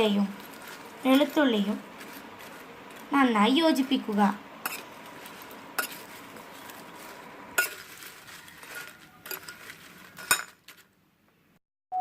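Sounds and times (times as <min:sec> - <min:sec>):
spoon stirring and scraping: 0:00.0 - 0:10.9.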